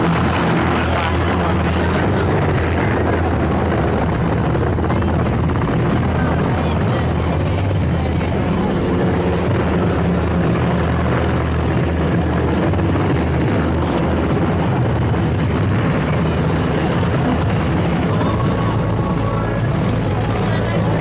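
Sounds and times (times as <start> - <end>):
helicopter flying past: 0.0 - 21.0.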